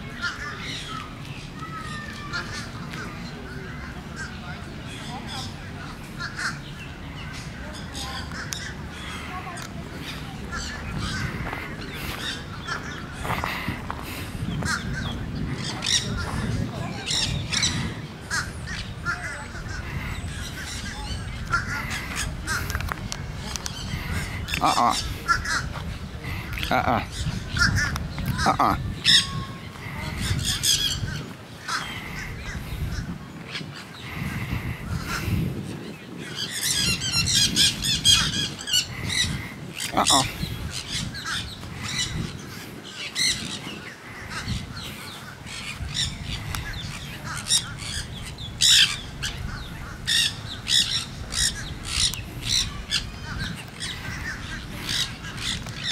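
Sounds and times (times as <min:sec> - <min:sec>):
parakeets squawking: 0:00.1 - 0:55.9.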